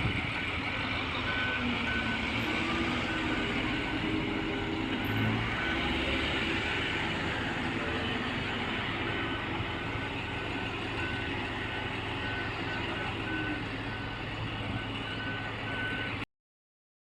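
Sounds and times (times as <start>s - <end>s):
truck diesel engine running: 0.0s - 16.2s.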